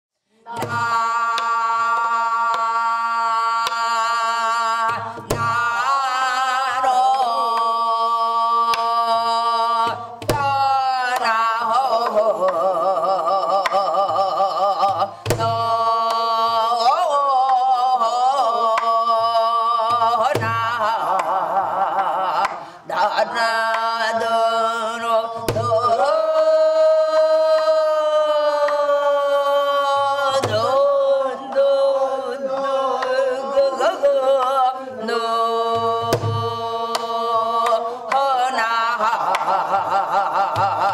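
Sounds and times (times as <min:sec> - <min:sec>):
person singing with vibrato: 0:00.2 - 0:40.9.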